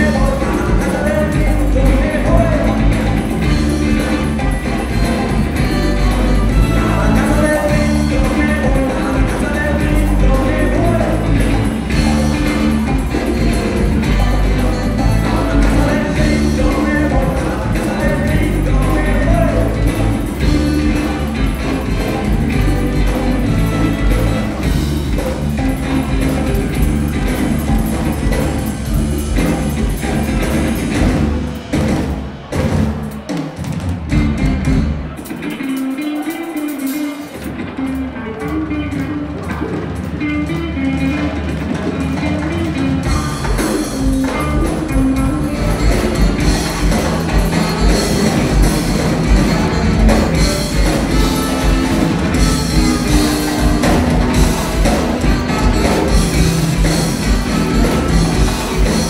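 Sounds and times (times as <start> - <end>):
drum kit beat: 0.0 - 59.0
electric guitar: 0.0 - 59.0
funk rock band music: 0.0 - 59.0.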